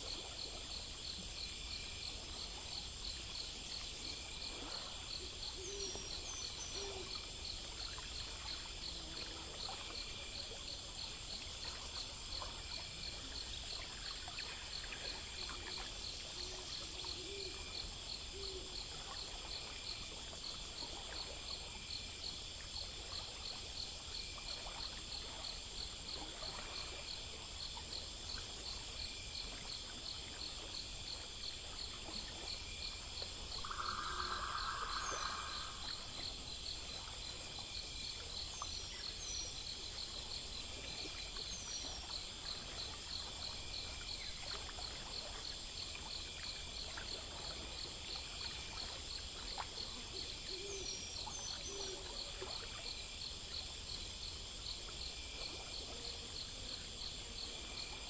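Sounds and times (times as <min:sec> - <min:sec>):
crickets and insects chirping: 0:00.0 - 0:58.0.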